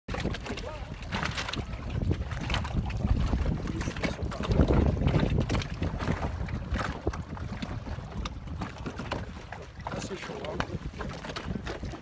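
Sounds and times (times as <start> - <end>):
choppy lake water: 0.1 - 12.0
wind buffeting microphone: 0.1 - 12.0.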